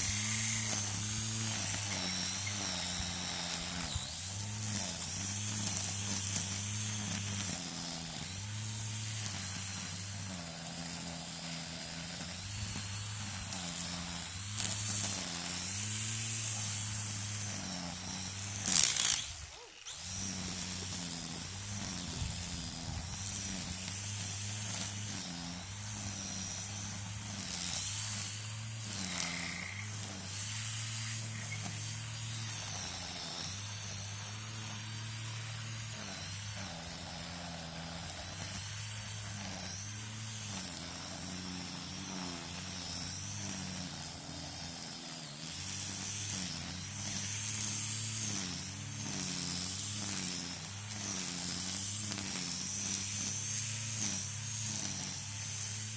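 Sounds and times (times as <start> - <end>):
string trimmer running: 0.0 - 55.9.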